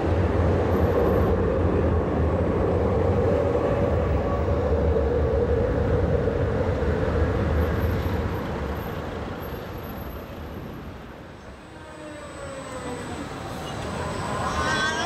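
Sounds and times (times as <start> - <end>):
faint traffic: 0.0 - 15.0
tram rumbling: 0.0 - 15.0.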